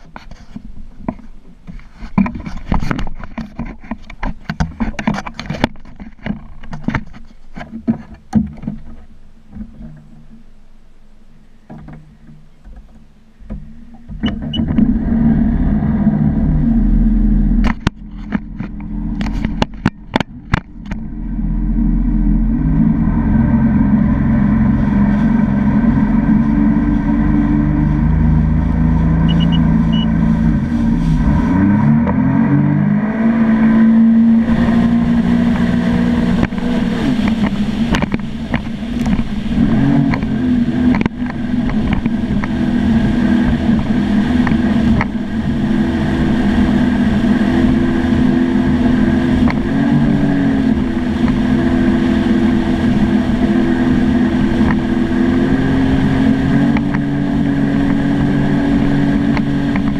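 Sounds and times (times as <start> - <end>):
jet ski engine running: 0.0 - 59.9.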